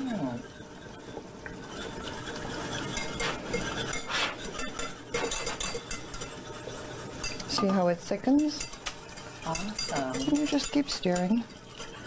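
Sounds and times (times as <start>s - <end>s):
whisk clicking and scraping pan: 0.0s - 12.0s.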